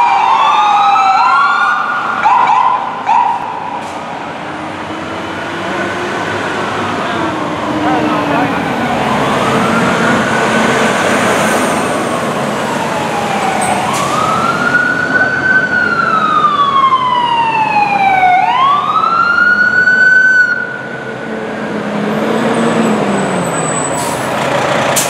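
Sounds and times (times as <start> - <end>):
fire truck siren wailing: 0.0 - 25.0.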